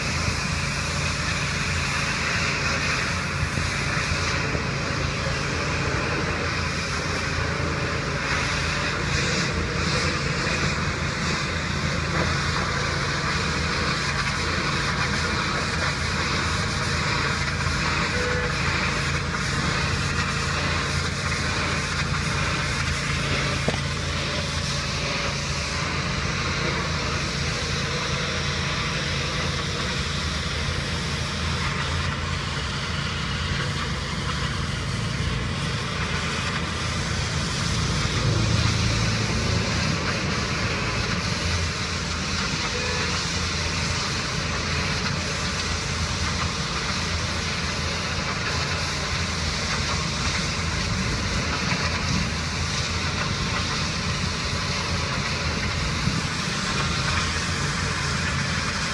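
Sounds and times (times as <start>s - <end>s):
pressure washer running: 0.0s - 58.9s.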